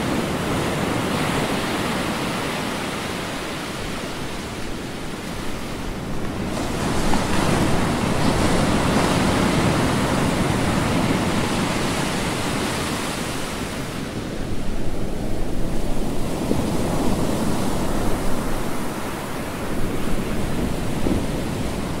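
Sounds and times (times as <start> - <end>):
ocean waves washing: 0.0 - 22.0.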